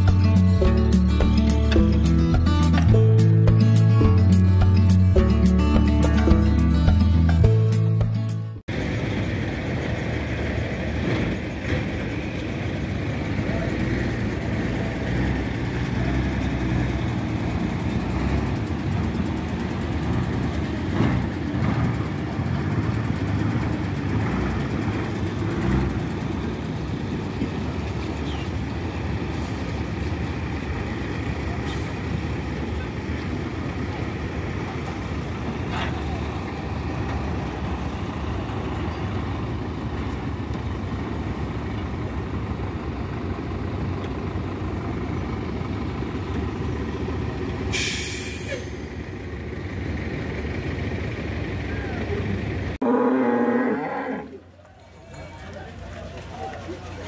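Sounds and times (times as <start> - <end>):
diesel truck engines rumbling: 0.0 - 57.0.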